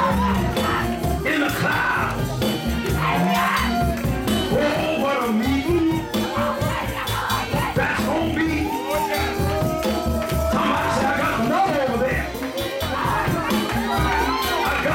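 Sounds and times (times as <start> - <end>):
lively church band music: 0.0 - 14.9.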